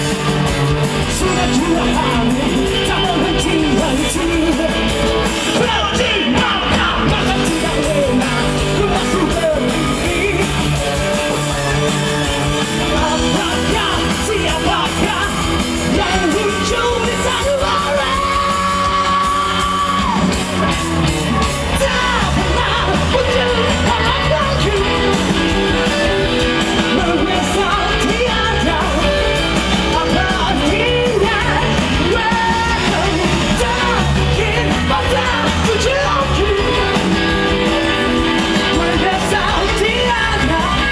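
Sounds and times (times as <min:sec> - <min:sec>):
person singing and yelling: 0:00.0 - 0:40.9
rock band playing: 0:00.0 - 0:40.9.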